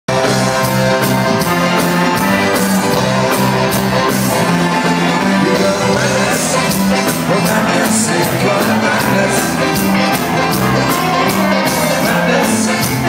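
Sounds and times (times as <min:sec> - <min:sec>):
live ska band playing: 0:00.1 - 0:13.0.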